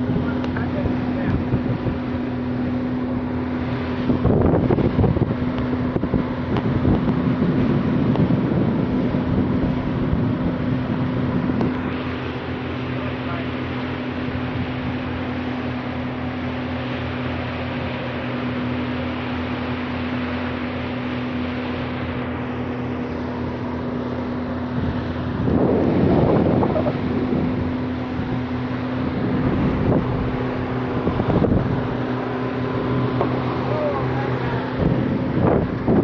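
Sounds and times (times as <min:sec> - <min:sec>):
wind buffeting microphone: 0:00.0 - 0:20.5, 0:21.2 - 0:36.0
outboard motors running: 0:00.0 - 0:36.0
water rushing: 0:00.0 - 0:36.0.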